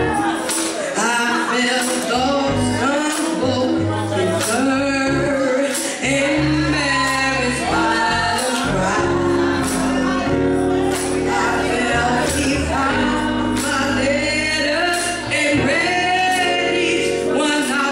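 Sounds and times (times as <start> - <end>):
keyboard bass and chords: 0.0 - 17.9
woman singing into microphone: 0.0 - 17.9.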